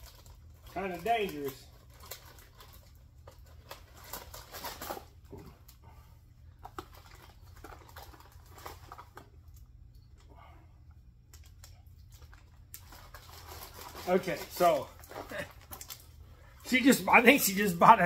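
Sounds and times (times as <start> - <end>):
plastic bag crinkling: 0.0 - 5.7, 6.6 - 9.8, 11.4 - 18.0
low steady hum: 1.5 - 18.0.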